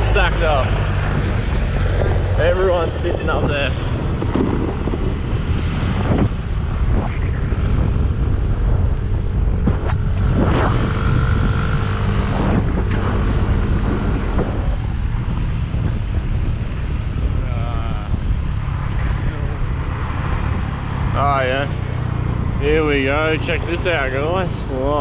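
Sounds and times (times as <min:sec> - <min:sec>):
vehicle engine running: 0:00.0 - 0:25.0
wind buffeting microphone: 0:00.0 - 0:25.0.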